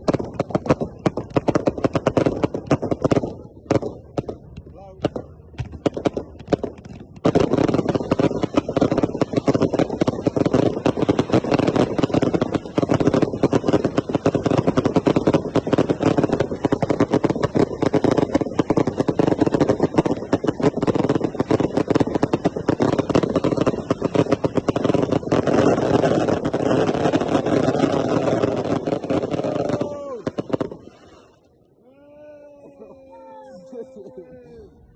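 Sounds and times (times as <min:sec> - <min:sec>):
fireworks crackling: 0:00.0 - 0:31.8.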